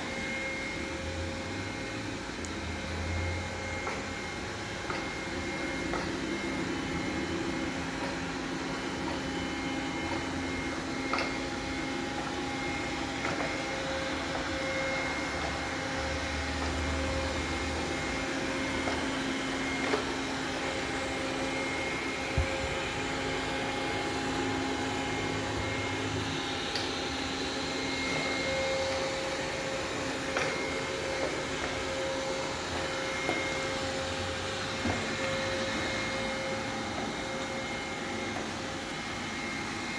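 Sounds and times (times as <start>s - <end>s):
robot vacuum whirring hum: 0.0s - 39.9s.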